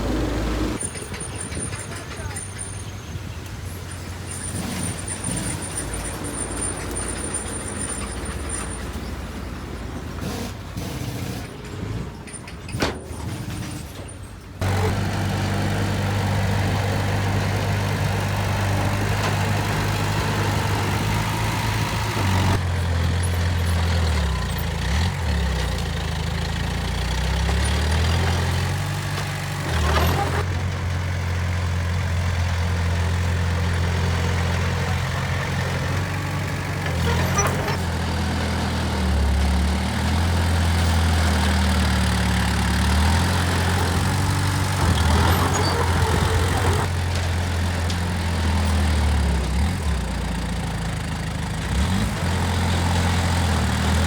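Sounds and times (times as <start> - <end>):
heavy diesel engine running: 0.0 - 12.2, 13.1 - 54.0.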